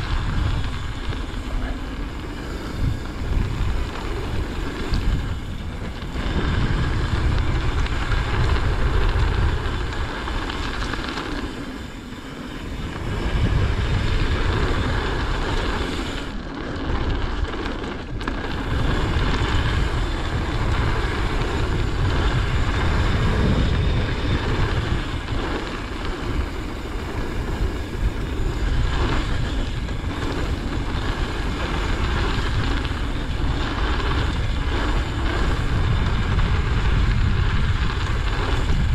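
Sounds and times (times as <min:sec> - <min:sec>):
bike tyres rolling on gravel: 0:00.0 - 0:38.9
wind rumble on microphone: 0:00.0 - 0:38.9.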